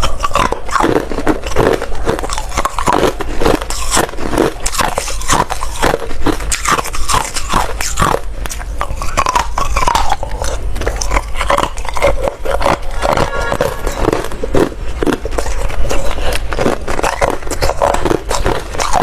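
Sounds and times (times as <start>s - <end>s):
person chewing ice: 0.0s - 19.0s.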